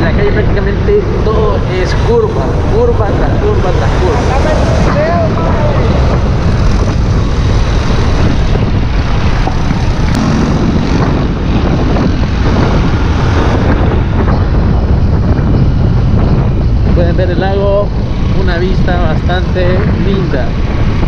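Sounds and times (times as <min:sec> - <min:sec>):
wind and road rush: 0:00.0 - 0:21.0
motorcycle engine running: 0:03.6 - 0:21.0.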